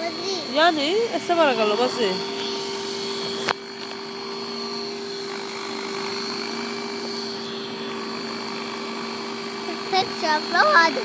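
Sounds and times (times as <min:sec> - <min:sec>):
rc helicopter rotors hovering: 0:00.0 - 0:11.0.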